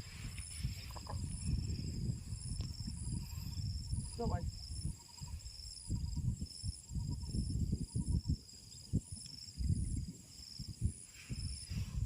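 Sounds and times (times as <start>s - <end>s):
faint low insect trill: 0.0s - 12.0s
insects chirping: 0.0s - 12.0s.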